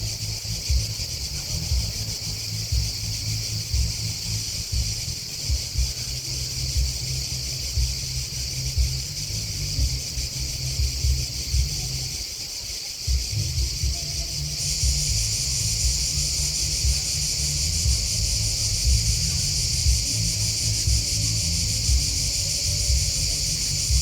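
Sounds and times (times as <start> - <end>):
low rumble: 0.0 - 12.3, 13.1 - 24.0
insects chirping: 0.0 - 24.0.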